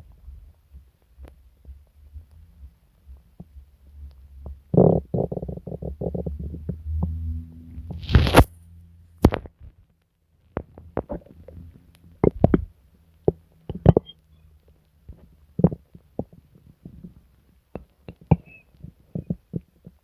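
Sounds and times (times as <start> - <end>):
stomach gurgling and rumbling: 0.0 - 8.5, 10.5 - 14.2, 15.0 - 20.0.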